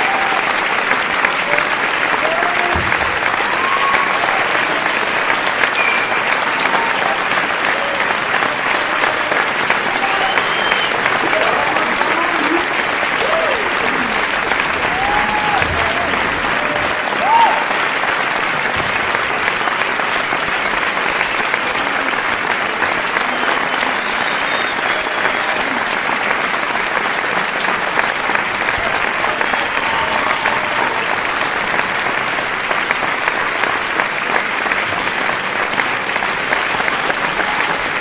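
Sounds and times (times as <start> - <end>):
audience applause: 0.0 - 38.0.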